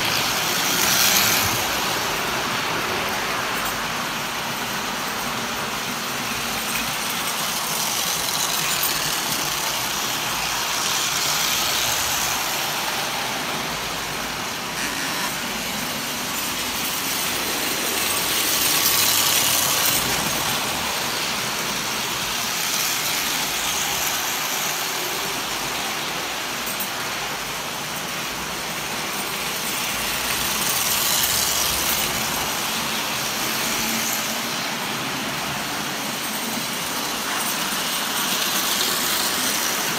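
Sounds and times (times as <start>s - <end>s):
toy trains rumbling on track: 0.0s - 39.9s.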